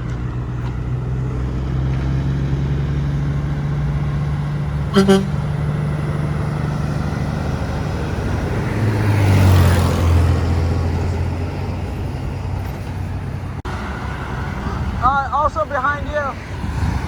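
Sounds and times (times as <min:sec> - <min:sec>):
truck passing by: 0:00.0 - 0:17.0.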